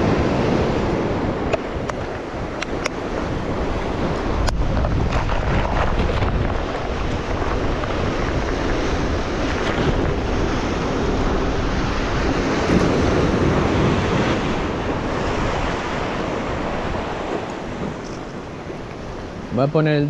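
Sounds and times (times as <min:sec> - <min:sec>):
surf breaking over rocks: 0:00.0 - 0:20.0
wind buffeting microphone: 0:00.0 - 0:20.0.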